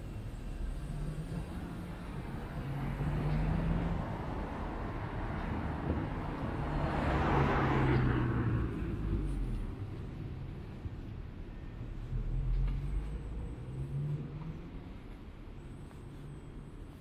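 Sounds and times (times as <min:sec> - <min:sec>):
car passing by: 0:00.0 - 0:11.1, 0:11.8 - 0:17.0.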